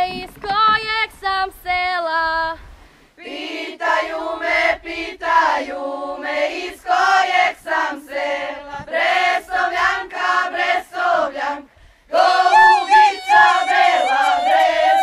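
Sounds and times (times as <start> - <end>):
women singing a folk song: 0.0 - 15.0.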